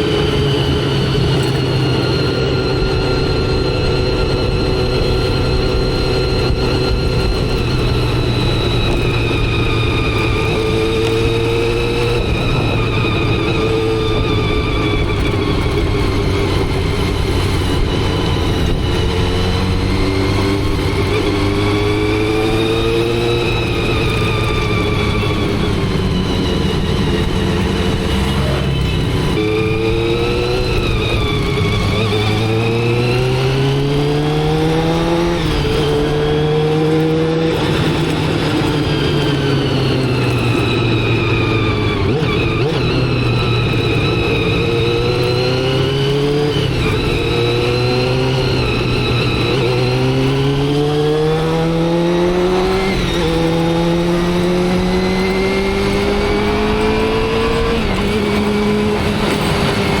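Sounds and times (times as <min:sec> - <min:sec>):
motorcycle engine shifting gears: 0:00.0 - 1:00.0
wind noise: 0:00.0 - 1:00.0.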